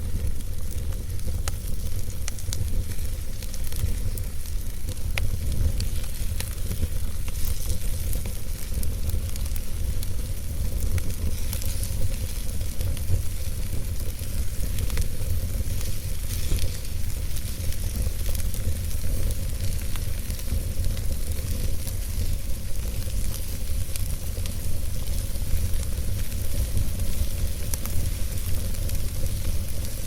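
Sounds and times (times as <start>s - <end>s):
campfire crackling and popping: 0.0s - 30.0s
campfire hiss: 0.0s - 30.0s.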